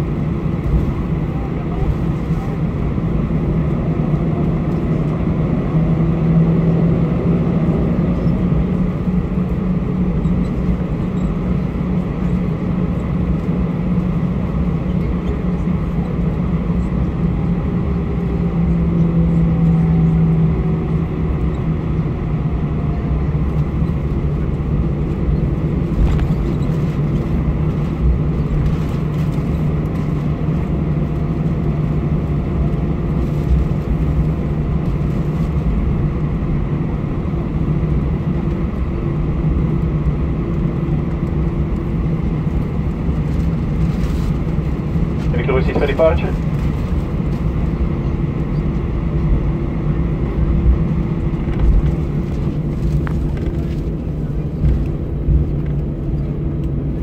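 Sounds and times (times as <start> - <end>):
jet engines low hum: 0.0 - 57.0.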